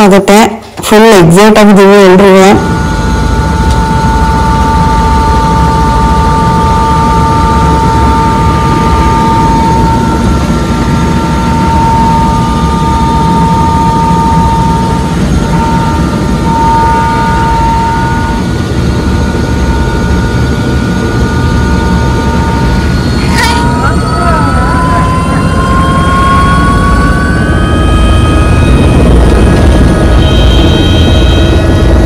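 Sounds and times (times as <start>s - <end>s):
helicopter rotor rumble: 0.0s - 32.0s
helicopter turbine whine: 0.0s - 32.0s.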